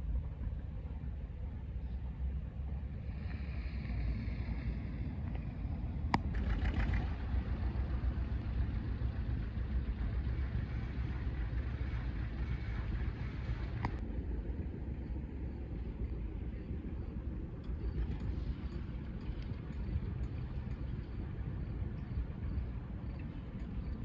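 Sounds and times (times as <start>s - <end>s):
low engine rumble: 0.0s - 24.0s.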